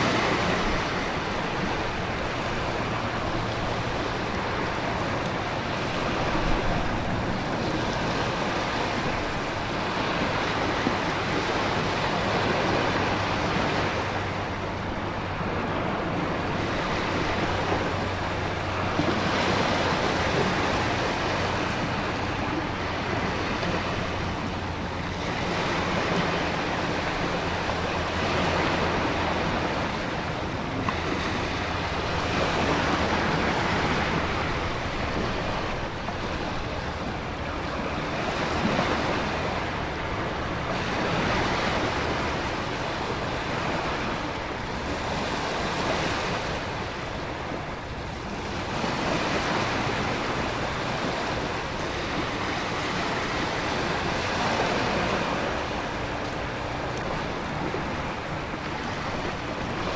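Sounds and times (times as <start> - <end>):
ocean waves breaking: 0.0 - 59.9
wind: 0.0 - 59.9.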